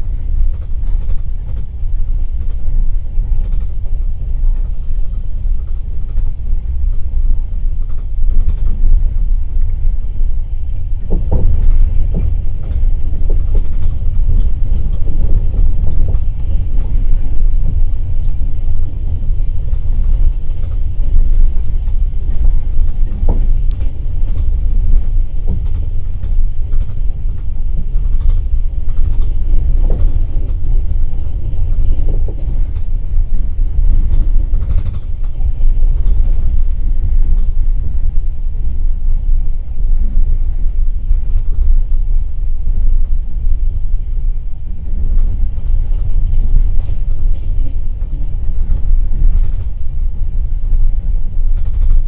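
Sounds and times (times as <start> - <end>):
train knocks and creaks: 0.0 - 52.0
train wheels rumbling on track: 0.0 - 52.0.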